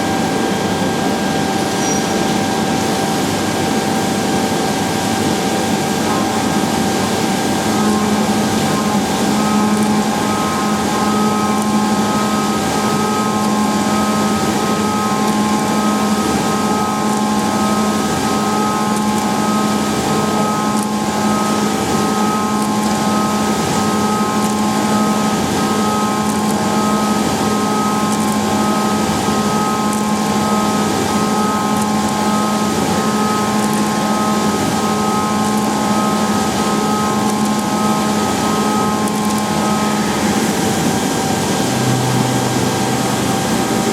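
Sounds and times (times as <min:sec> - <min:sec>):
machine whine: 0:00.0 - 0:43.9.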